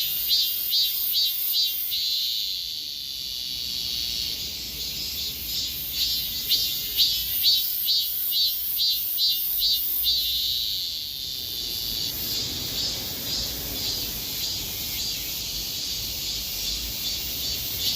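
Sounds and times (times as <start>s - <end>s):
cicada buzzing: 0.0s - 17.9s.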